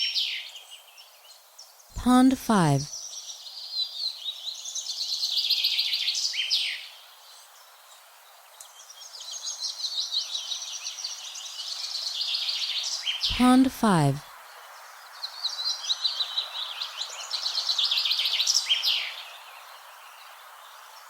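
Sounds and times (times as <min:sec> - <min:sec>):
light breeze hiss: 0:00.5 - 0:01.9, 0:02.9 - 0:13.1, 0:14.3 - 0:21.0.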